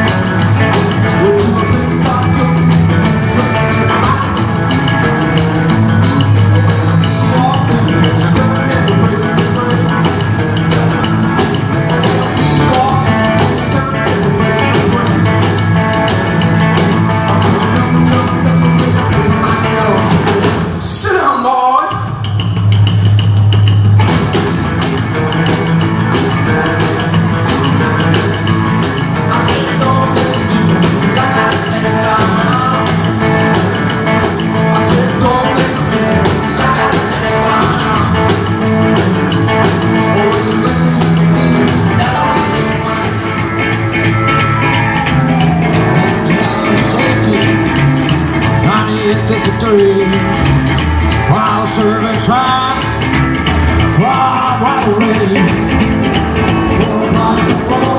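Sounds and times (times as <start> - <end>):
slapped double bass: 0.0 - 20.8, 21.9 - 57.9
rockabilly band playing live: 0.0 - 57.9.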